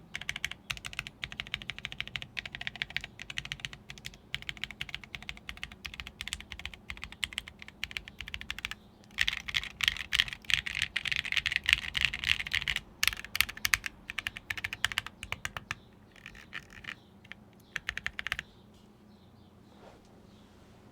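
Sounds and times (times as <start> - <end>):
mechanical keyboard typing: 0.0 - 18.5.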